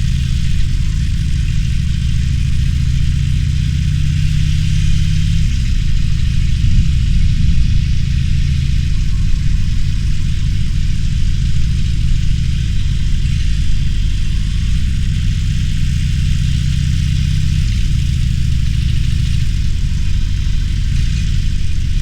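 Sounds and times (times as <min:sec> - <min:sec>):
motorcycle engine throbbing at low revs: 0:00.0 - 0:22.0.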